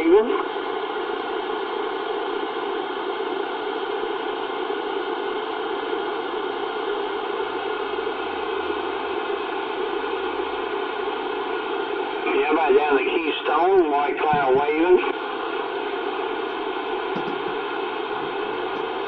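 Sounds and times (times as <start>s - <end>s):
radio static hiss: 0.0s - 6.3s, 7.3s - 19.0s.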